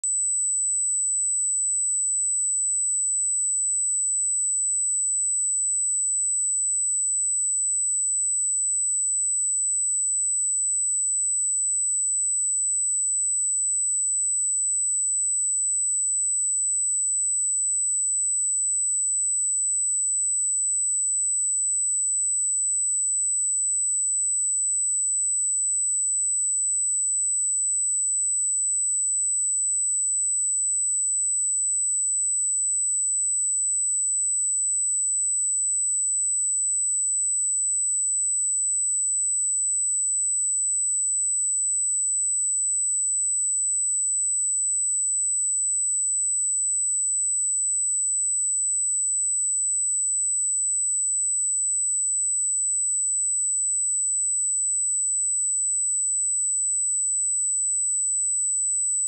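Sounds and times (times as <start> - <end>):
high-pitched sine test tone: 0.0 - 59.0.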